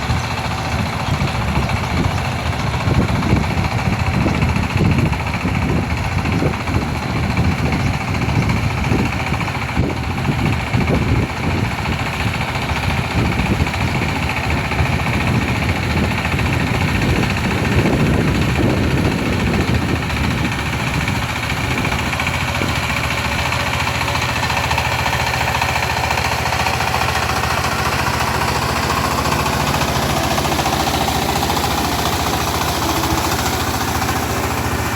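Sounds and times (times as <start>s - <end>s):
tiller engine running: 0.0s - 34.9s.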